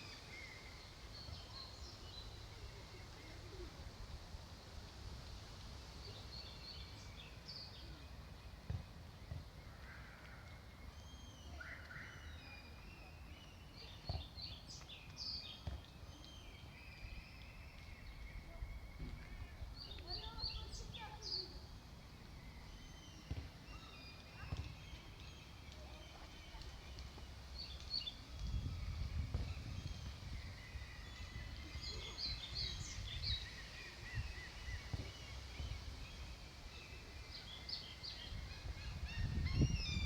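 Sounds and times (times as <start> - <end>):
birds chirping: 6.0 - 40.0.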